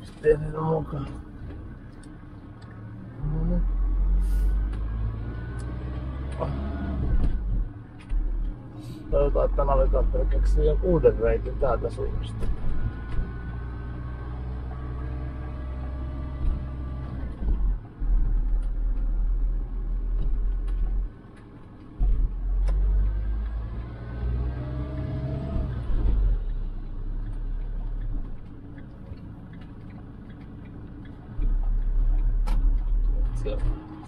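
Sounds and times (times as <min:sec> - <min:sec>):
motorhome engine and road rumble: 0:00.0 - 0:34.0.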